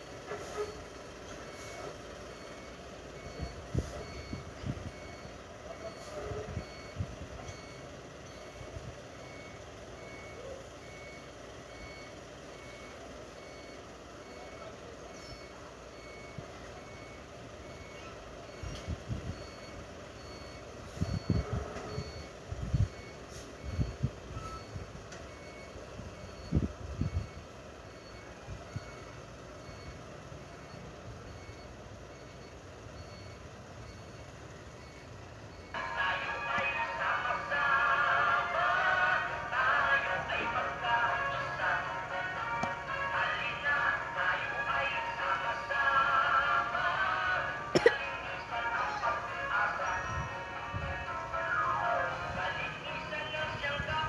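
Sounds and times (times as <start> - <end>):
reversing alarm beeping: 0.0 - 54.0.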